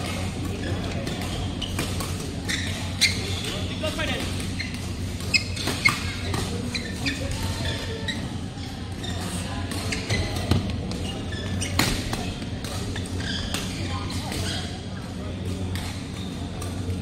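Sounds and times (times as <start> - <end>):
low hum of hall: 0.0 - 17.0
shoes squeaking on court: 0.0 - 17.0.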